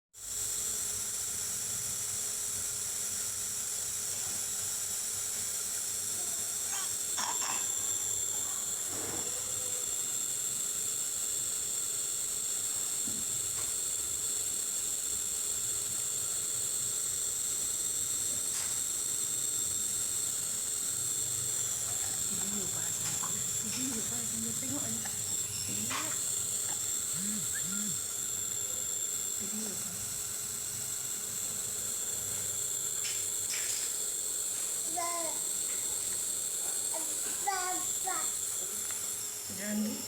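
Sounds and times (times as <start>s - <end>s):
inhaler hissing and whining: 0.2s - 40.0s.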